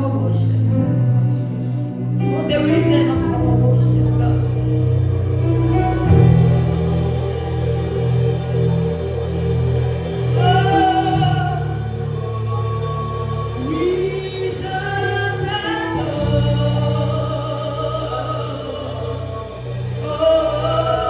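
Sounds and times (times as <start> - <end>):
people singing: 0.0 - 21.0.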